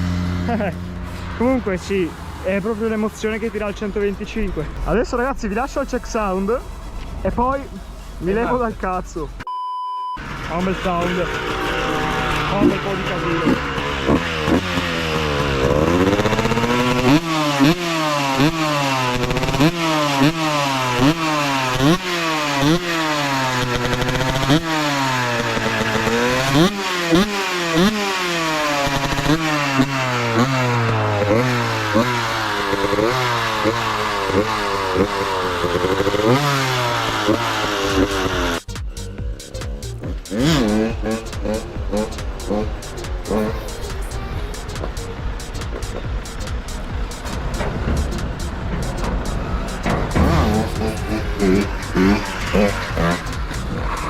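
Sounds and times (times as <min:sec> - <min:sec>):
two-stroke engine revving: 0:00.0 - 0:09.4, 0:10.2 - 0:54.0.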